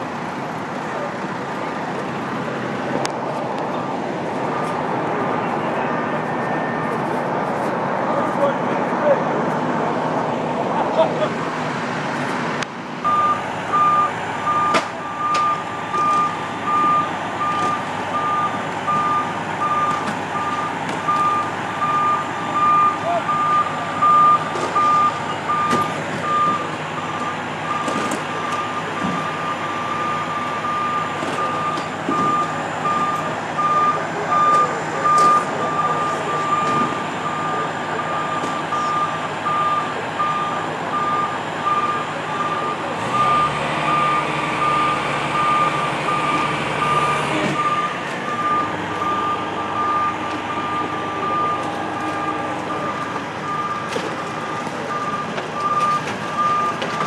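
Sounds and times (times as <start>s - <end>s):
street noise: 0.0s - 57.0s
fire truck warning beeper: 3.8s - 7.1s, 13.0s - 57.0s.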